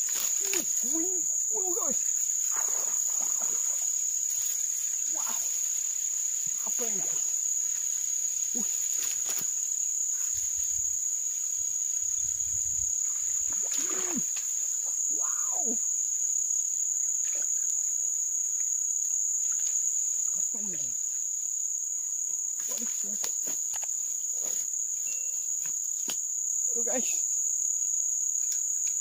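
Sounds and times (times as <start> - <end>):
swamp insects chorus: 0.0 - 29.0.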